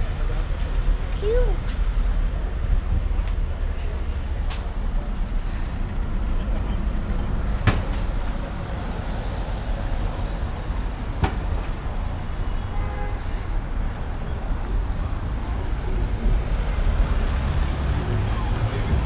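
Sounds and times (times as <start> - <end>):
cars driving past: 1.8 - 19.0.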